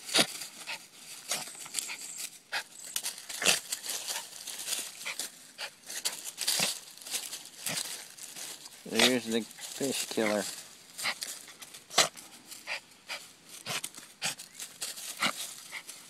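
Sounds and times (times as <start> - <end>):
rustling of grass and dry leaves: 0.0 - 16.0.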